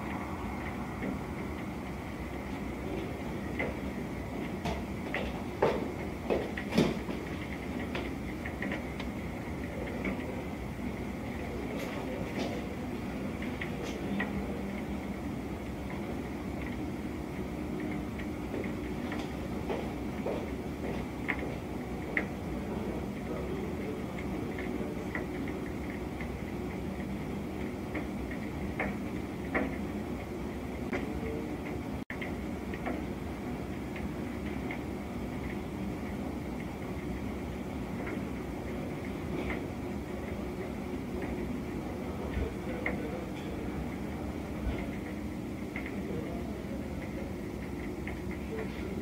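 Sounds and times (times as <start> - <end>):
fire rumbling: 0.0 - 49.0.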